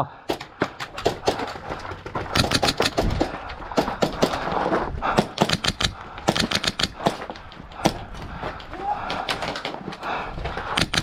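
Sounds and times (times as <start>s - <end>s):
airsoft guns firing: 0.3s - 9.8s, 10.7s - 11.0s.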